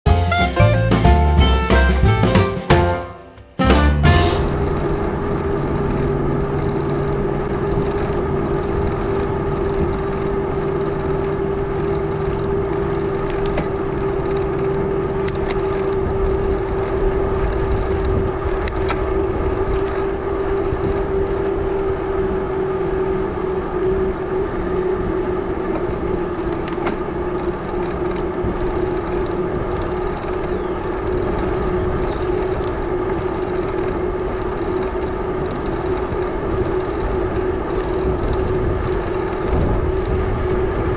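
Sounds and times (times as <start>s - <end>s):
road noise: 0.0s - 40.9s
bike tires humming on pavement: 4.4s - 40.9s.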